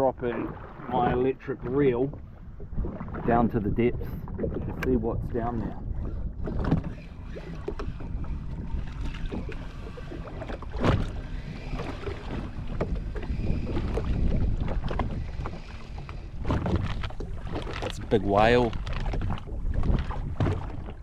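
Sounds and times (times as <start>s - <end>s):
jet ski water noise: 0.0s - 21.0s
knocks and splashes: 0.0s - 21.0s
wind buffeting microphone: 0.0s - 21.0s.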